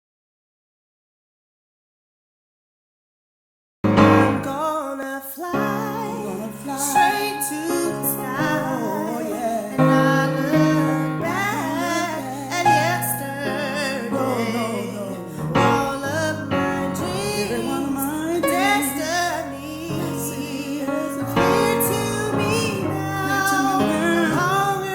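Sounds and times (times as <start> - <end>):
piano chords: 3.8 - 24.9
women singing with vibrato: 4.0 - 24.9.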